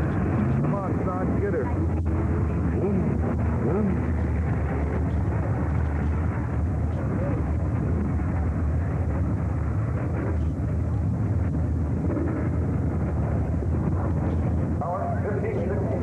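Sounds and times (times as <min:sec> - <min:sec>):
car engines droning: 0:00.0 - 0:16.0
wind buffeting microphone: 0:00.0 - 0:16.0.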